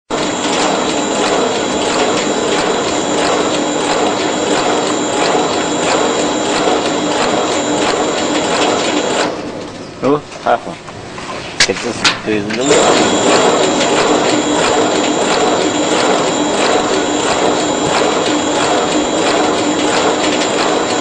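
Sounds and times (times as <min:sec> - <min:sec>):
high machine whine: 0:00.1 - 0:10.2, 0:12.5 - 0:21.0
machine clattering with clicks: 0:00.1 - 0:10.6, 0:11.6 - 0:21.0.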